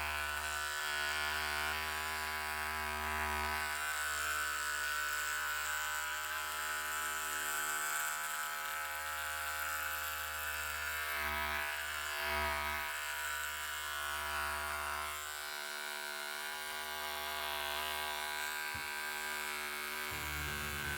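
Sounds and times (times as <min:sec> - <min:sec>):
electric hair clipper buzzing: 0:00.0 - 0:20.9.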